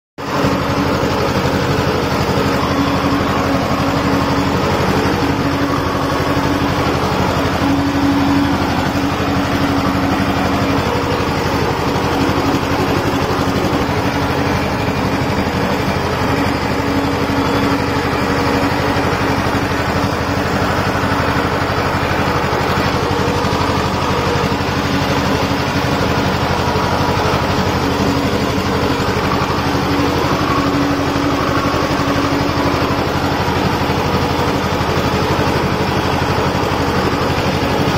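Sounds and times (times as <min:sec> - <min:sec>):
tractor diesel engine under load: 0:00.2 - 0:37.9.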